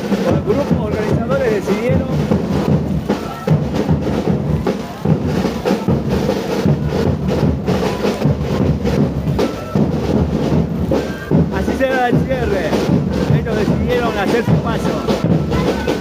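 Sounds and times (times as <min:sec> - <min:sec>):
live drums and percussion: 0:00.0 - 0:16.0.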